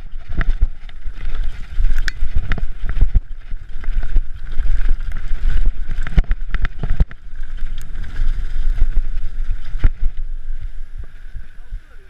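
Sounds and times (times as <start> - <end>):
bike knocking and clattering: 0.0 - 10.7
tyres rumbling over stones: 0.0 - 11.5
wind on microphone: 0.0 - 12.0.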